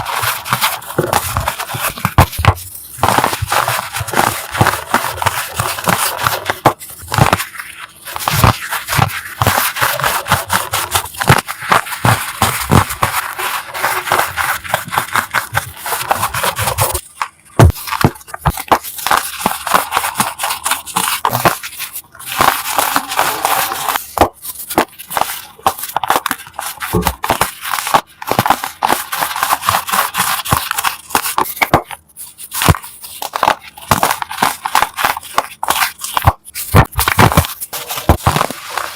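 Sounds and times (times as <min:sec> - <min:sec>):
chalk blocks crunching: 0:00.0 - 0:38.9.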